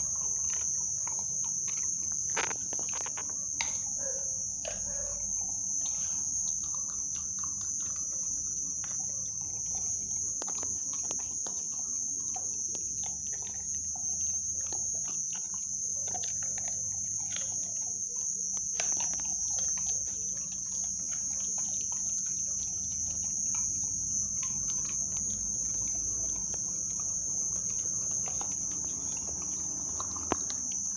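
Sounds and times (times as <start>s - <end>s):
crickets trilling: 0.0s - 30.9s
puppy chewing and licking food: 0.0s - 30.9s.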